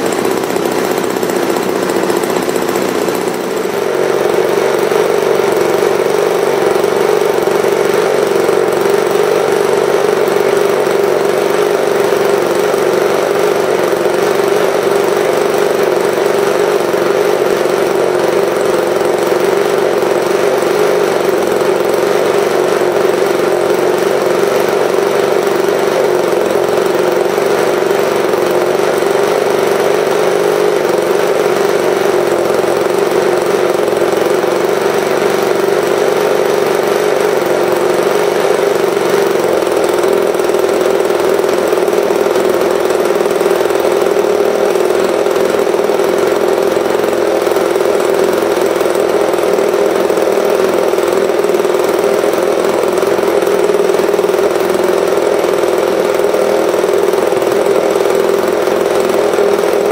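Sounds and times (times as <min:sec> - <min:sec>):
model aircraft engine running: 0:00.0 - 0:59.9.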